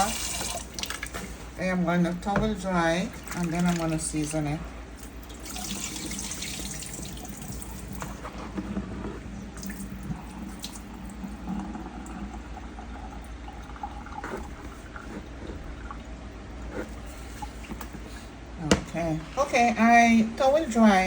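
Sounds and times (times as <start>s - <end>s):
water splashing in sink: 0.0s - 17.9s.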